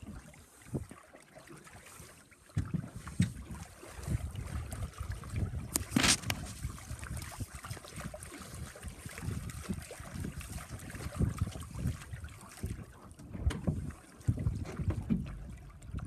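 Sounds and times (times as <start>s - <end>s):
water splashing against boat hull: 0.0s - 16.0s
wind buffeting microphone: 2.6s - 16.0s.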